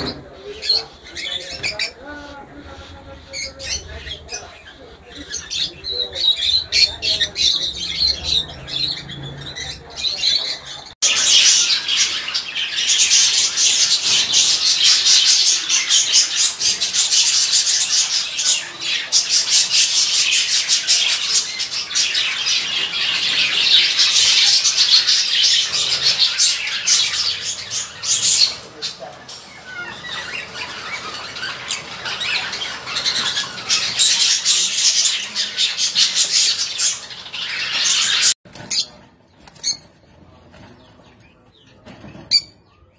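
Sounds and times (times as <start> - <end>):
birds chirping and squawking: 0.0 - 42.9.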